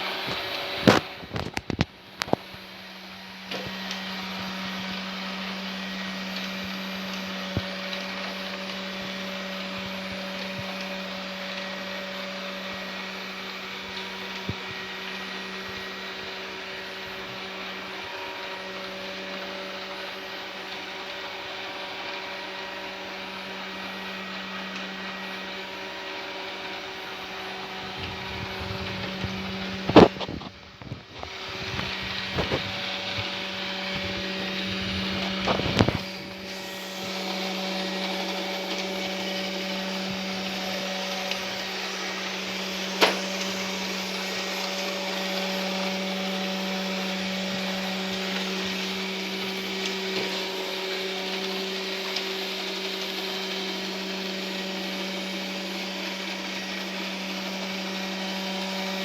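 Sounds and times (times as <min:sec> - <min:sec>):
robot vacuum motor hum: 0:00.0 - 0:59.0.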